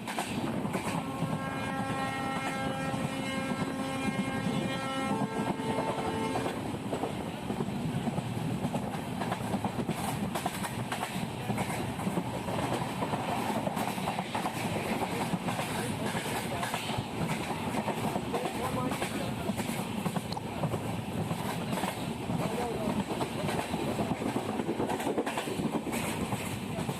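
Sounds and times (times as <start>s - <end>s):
train rumble: 0.0s - 26.9s
train wheels clattering: 0.0s - 26.9s.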